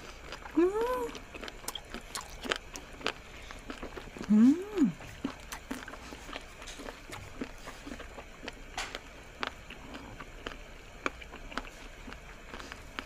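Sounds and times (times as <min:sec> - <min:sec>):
wet chewing clicks: 0:00.0 - 0:13.0.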